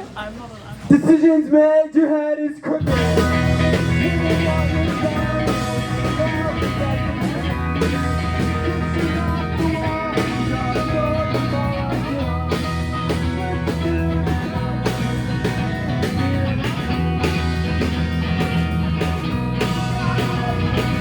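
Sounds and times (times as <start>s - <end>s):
live rock band instrumental: 2.8s - 21.0s.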